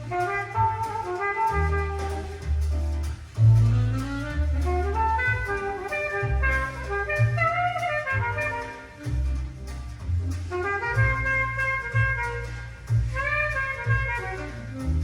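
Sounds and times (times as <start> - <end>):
jazz from vinyl record: 0.0 - 15.0.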